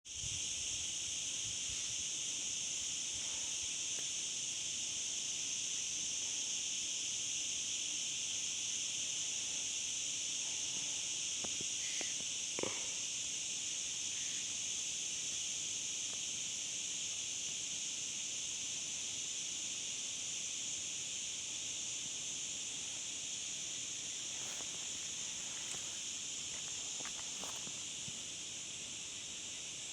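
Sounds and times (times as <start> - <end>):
insect chorus: 0.0 - 29.9.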